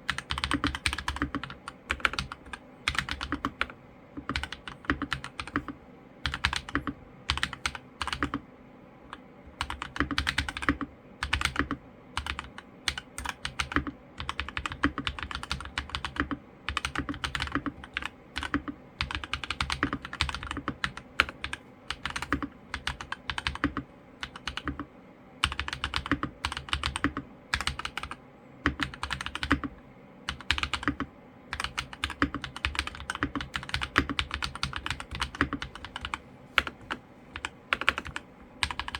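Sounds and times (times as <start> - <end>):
mechanical keyboard typing: 0.0 - 8.4, 9.1 - 38.9.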